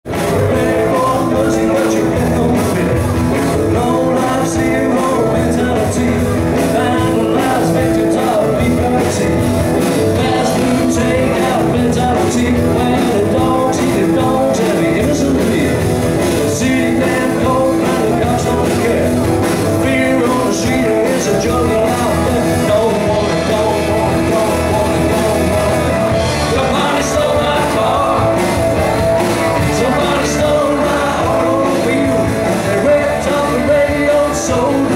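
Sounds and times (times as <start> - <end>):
drums: 0.0 - 34.9
electric bass: 0.0 - 34.9
electric guitars: 0.0 - 34.9
lead vocal singing: 0.2 - 34.9.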